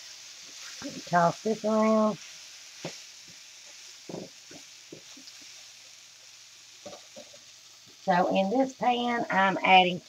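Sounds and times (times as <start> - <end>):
meat sizzling in hot oil: 0.0 - 10.0.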